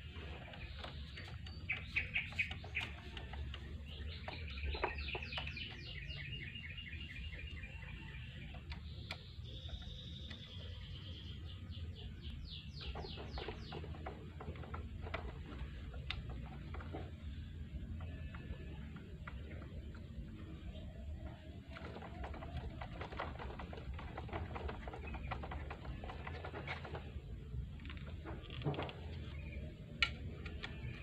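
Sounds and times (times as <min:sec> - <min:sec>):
bird singing: 0:00.0 - 0:31.0.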